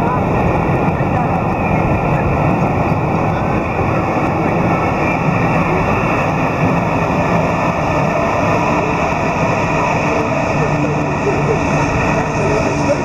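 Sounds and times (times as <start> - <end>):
train rumbling on tracks: 0.0 - 13.0.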